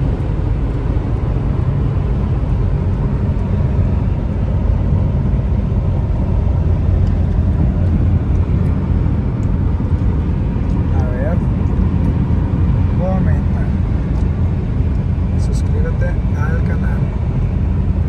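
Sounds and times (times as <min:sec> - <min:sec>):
car cabin road and engine rumble: 0:00.0 - 0:18.0.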